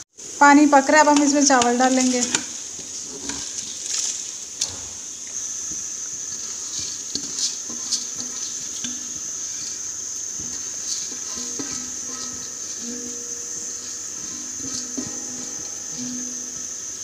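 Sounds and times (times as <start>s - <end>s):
rice pouring into boiling water: 1.2s - 17.0s.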